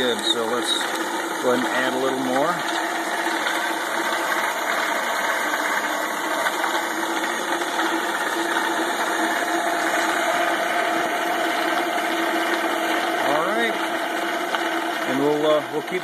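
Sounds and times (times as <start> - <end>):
ball mill machine hum: 0.0 - 16.0.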